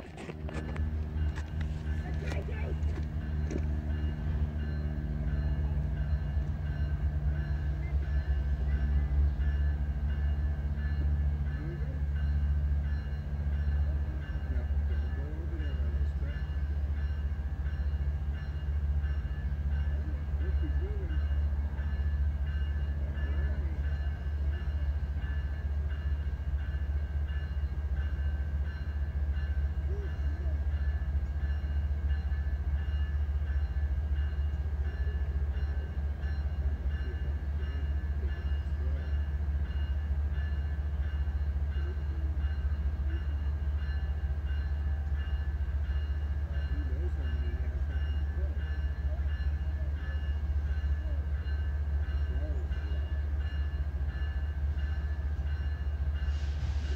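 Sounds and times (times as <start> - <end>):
distant diesel locomotive rumble: 0.0 - 56.9.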